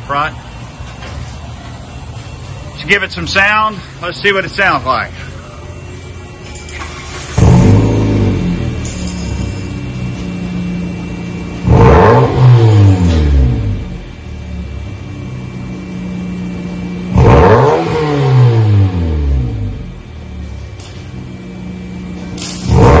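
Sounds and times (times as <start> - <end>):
car exhaust idling and revving: 0.0 - 23.0.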